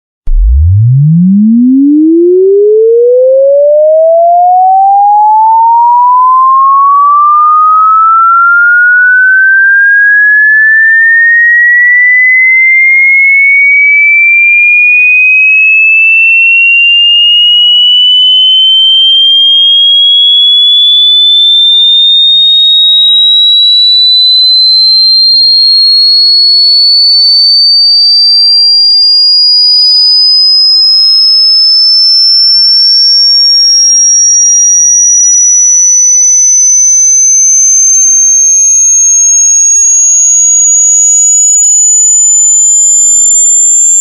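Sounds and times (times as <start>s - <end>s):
rising sine tone sweep: 0.3s - 27.8s, 28.4s - 44.0s.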